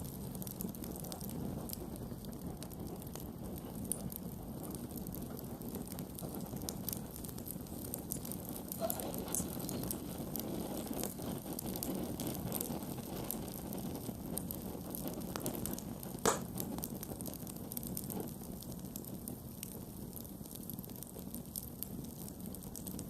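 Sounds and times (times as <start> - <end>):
burning wood crackling and popping: 0.0 - 23.0
campfire flames rushing: 0.0 - 23.0.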